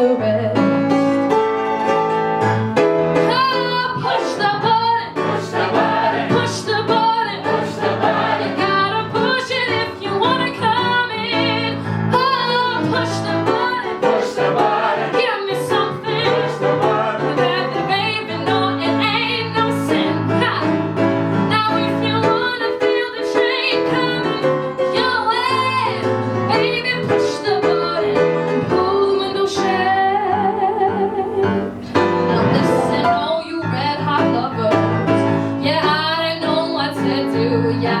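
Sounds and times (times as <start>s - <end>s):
instrumental accompaniment: 0.0s - 38.0s
woman singing with vibrato: 3.2s - 5.3s, 6.3s - 7.8s, 8.5s - 14.4s, 15.1s - 20.8s, 21.5s - 38.0s.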